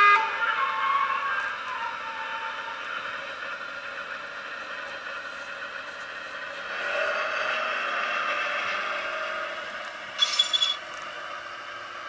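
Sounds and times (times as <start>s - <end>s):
thin diesel engine drone: 0.0s - 12.0s.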